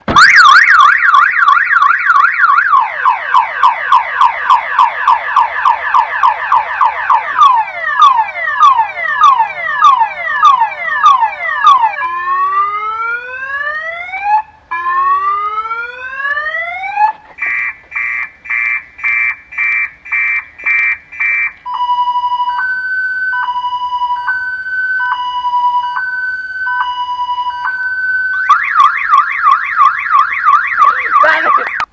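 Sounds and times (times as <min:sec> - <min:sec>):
car alarm siren: 0:00.0 - 0:31.9.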